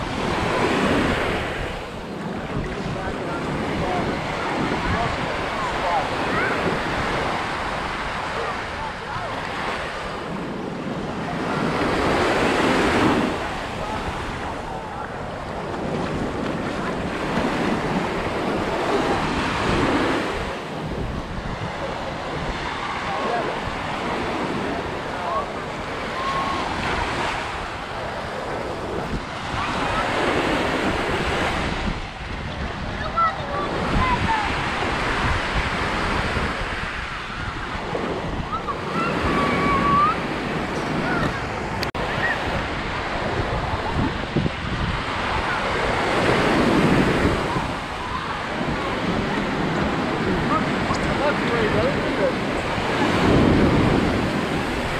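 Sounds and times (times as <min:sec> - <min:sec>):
small waves breaking on sand: 0:00.0 - 0:54.9
wind buffeting microphone: 0:00.0 - 0:54.9.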